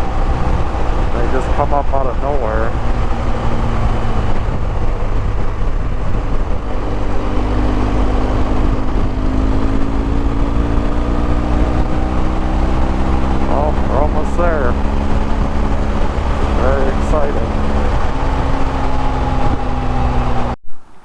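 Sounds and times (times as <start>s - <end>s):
motorcycle engine running: 0.0s - 20.6s
wind rumble on microphone: 0.0s - 21.0s.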